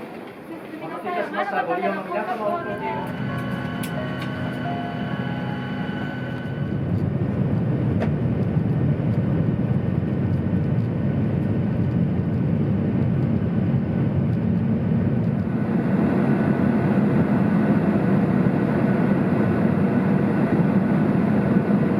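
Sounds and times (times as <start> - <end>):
passenger train rumbling: 0.0 - 21.9.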